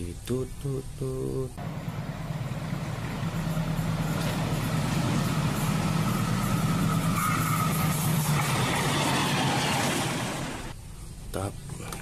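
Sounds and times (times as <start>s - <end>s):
low engine hum: 0.0s - 10.8s.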